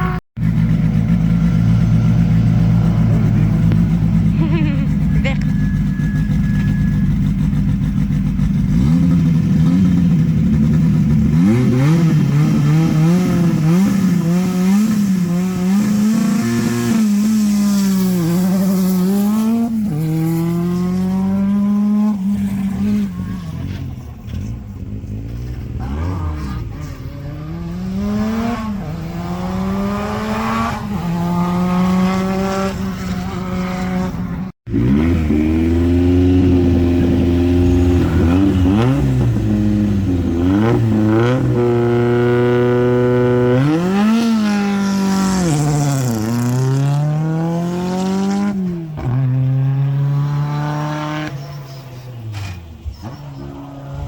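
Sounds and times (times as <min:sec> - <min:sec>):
car accelerating with upshifts: 0:00.0 - 0:54.0
rally car engines revving: 0:00.0 - 0:54.0.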